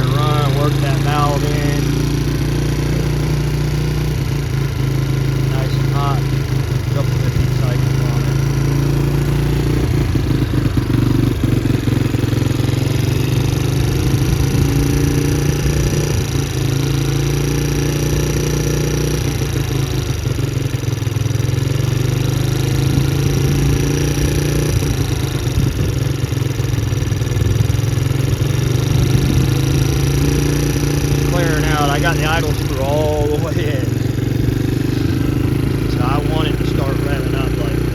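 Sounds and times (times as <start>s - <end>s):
quad engine idling: 0.0s - 37.9s.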